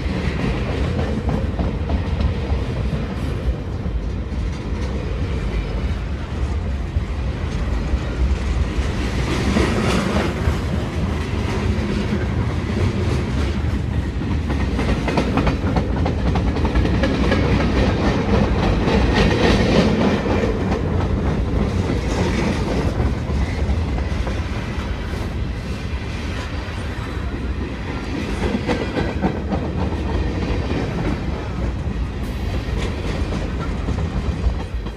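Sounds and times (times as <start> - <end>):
freight train cars rumbling: 0.0 - 34.9.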